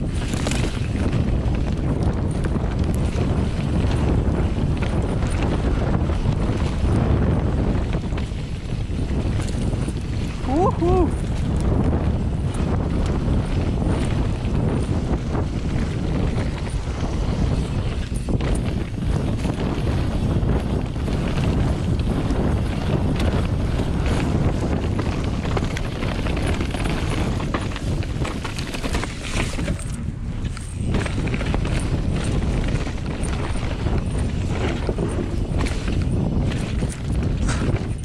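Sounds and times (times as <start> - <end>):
bike rattling and knocking: 0.0 - 38.0
bike tyres rolling over soil: 0.0 - 38.0
wind on microphone: 0.0 - 38.0.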